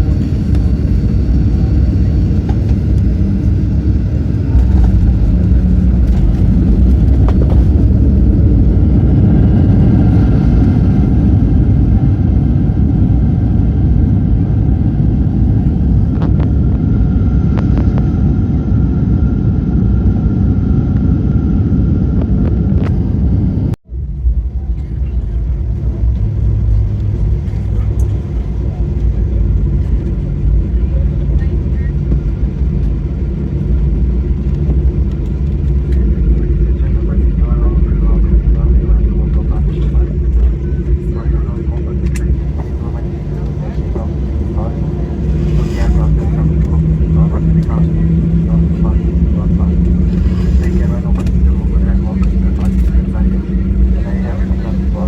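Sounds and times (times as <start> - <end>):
airliner cabin low rumble: 0.0 - 55.0.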